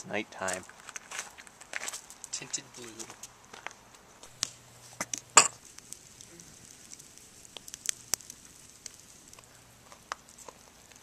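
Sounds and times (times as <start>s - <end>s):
campfire crackling: 0.0s - 11.0s
sharp fire pops: 0.4s - 11.0s.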